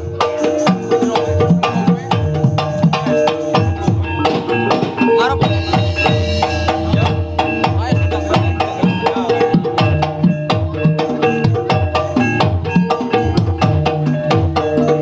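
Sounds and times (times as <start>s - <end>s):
drum strokes falling in pitch: 0.0s - 15.0s
ringing metallophone notes: 0.0s - 15.0s.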